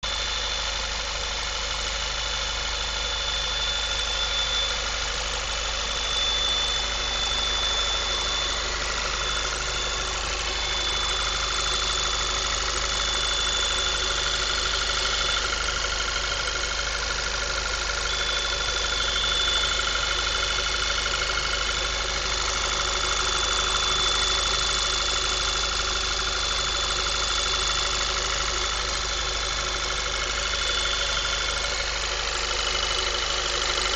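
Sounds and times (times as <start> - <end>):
car engine idling: 0.0 - 33.9
thin high-pitched whine: 0.1 - 33.9.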